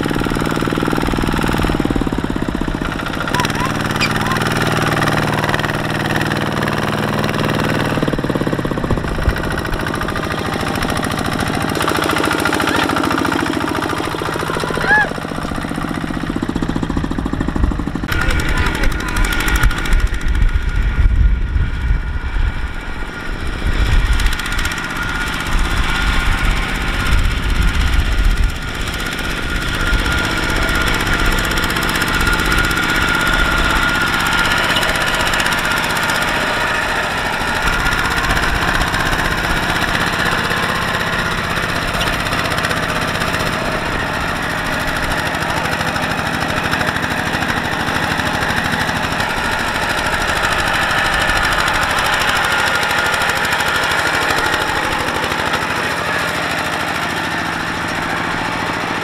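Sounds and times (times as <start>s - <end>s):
diesel engine knocking: 0.0s - 59.0s.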